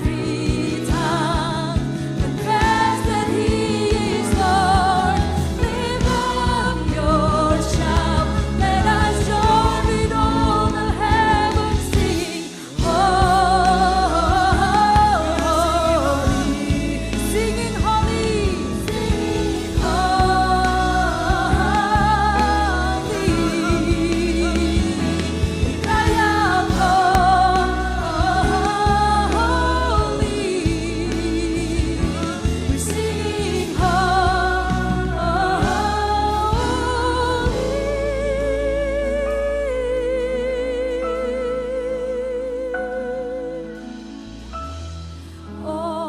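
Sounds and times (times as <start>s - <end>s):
singers with vibrato: 0.0s - 44.0s
bass guitar: 0.0s - 46.0s
drums: 0.0s - 46.0s.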